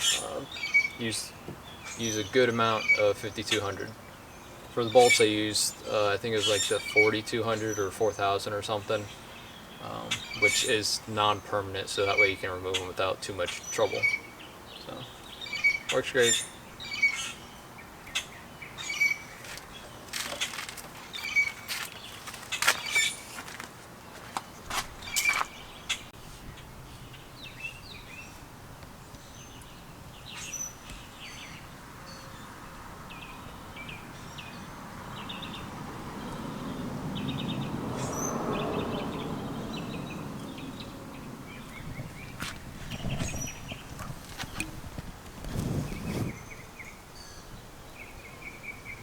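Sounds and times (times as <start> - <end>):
birds calling and chirping: 0.0 - 49.0.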